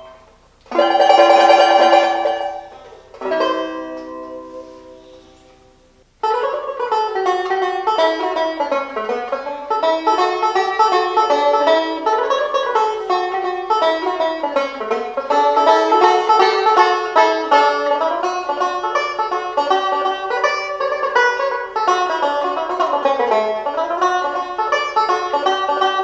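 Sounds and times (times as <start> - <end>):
tenor banjo picking: 0.0 - 26.0.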